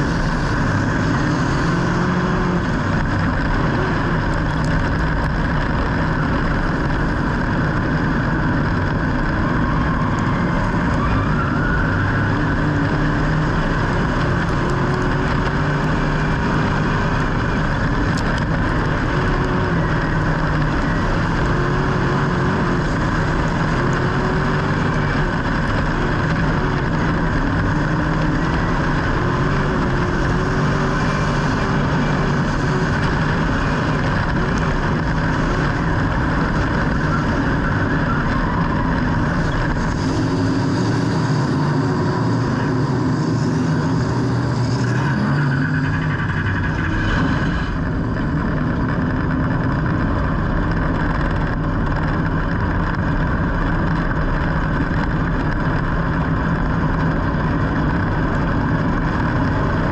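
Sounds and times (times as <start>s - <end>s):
vehicle motor running: 0.0s - 59.9s.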